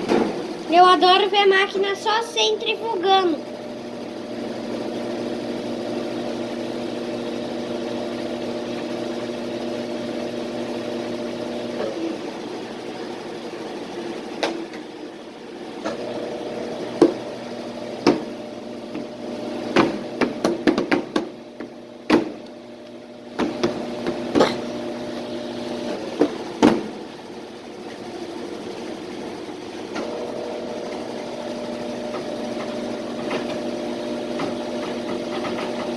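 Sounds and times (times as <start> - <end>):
washing machine motor hum: 0.0 - 35.9.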